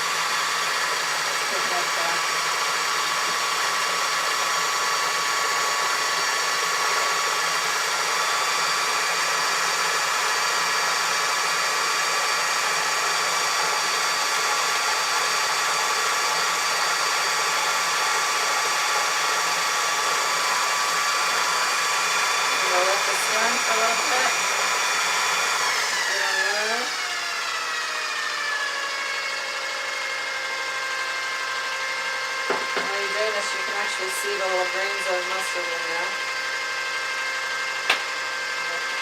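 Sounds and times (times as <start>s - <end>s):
food processor motor whirring: 0.0s - 39.0s.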